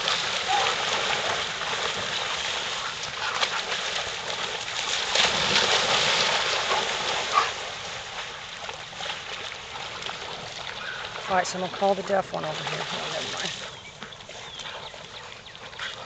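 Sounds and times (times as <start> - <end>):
dogs splashing through water: 0.0 - 16.0.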